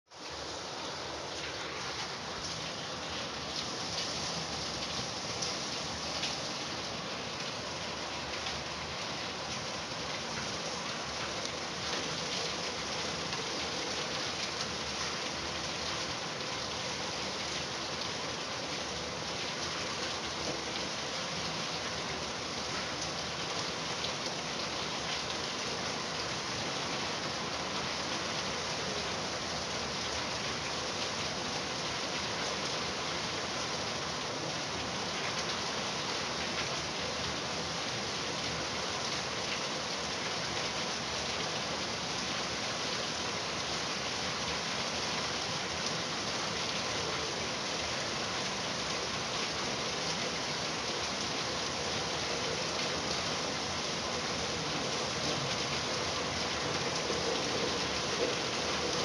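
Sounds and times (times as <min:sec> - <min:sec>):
steady rain patter: 0:00.1 - 0:59.0.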